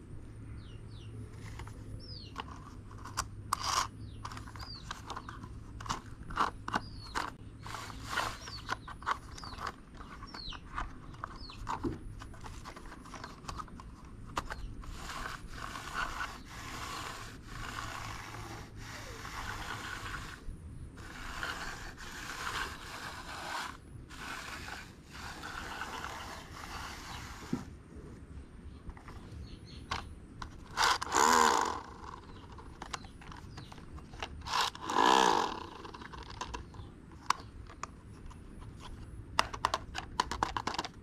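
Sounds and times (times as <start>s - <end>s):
plastic toys clicking and scraping: 1.3s - 27.6s, 28.9s - 41.0s
toys rattling: 1.4s - 27.2s, 29.9s - 41.0s.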